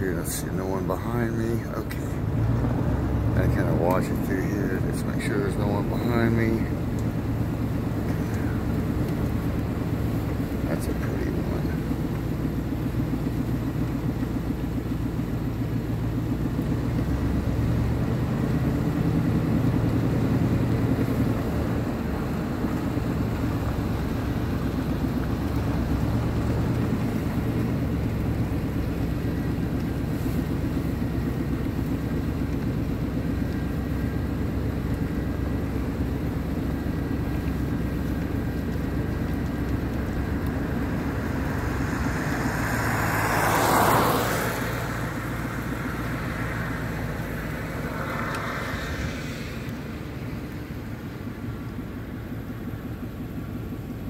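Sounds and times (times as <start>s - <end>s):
car engine and tyre road noise: 0.0s - 54.0s.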